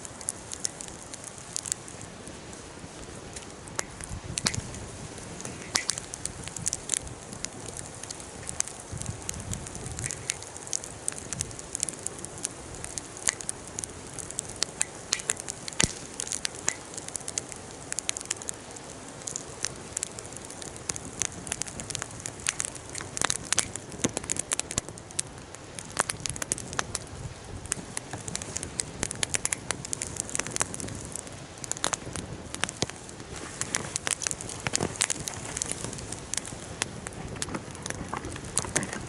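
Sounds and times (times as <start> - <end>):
sharp pops from fire: 0.0 - 39.0
soft hiss: 0.0 - 39.0
wood fire crackling: 0.0 - 39.0.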